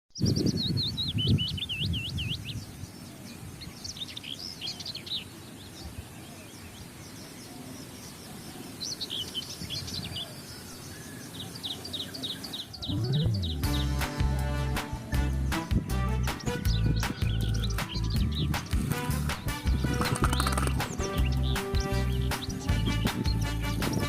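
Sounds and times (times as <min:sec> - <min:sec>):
birds chirping: 0:00.1 - 0:24.0.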